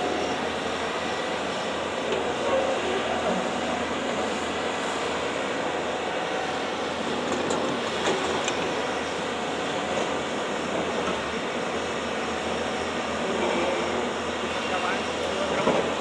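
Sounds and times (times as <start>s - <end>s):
heavy machinery diesel engine: 0.0s - 16.0s.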